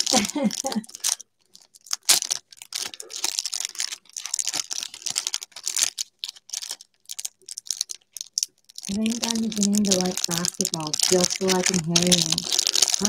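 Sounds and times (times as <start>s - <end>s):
wrapper crinkling and tearing: 0.0s - 13.0s.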